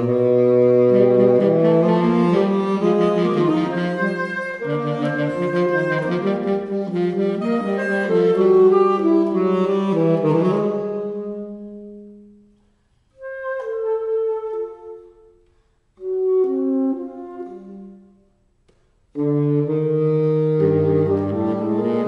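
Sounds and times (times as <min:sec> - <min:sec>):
saxophone trio playing: 0:00.0 - 0:12.5, 0:13.2 - 0:22.0.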